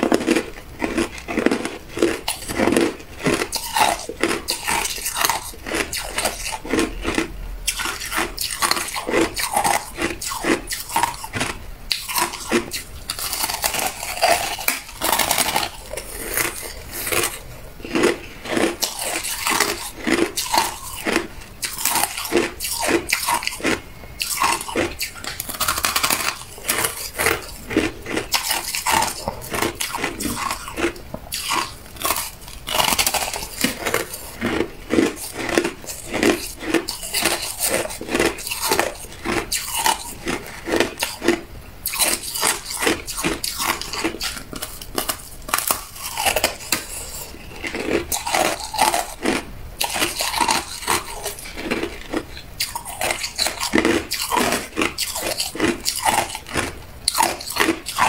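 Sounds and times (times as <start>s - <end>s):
ice crunching between teeth: 0.0s - 58.0s.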